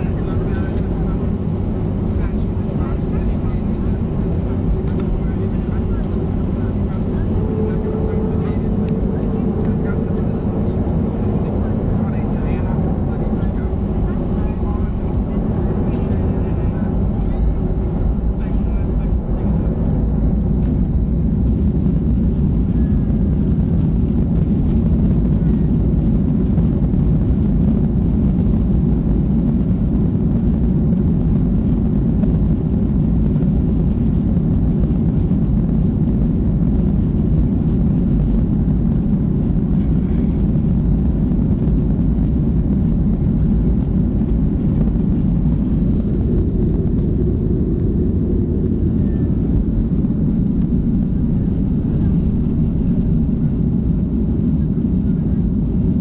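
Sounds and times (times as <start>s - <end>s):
faint high engine whine: 0.0s - 56.0s
jet engines rumbling in cabin: 0.0s - 56.0s.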